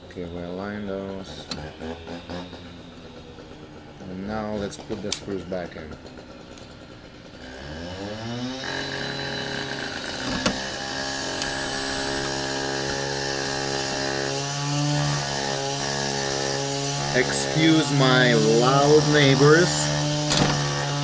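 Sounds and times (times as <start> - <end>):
concrete saw whine: 0.0 - 21.0.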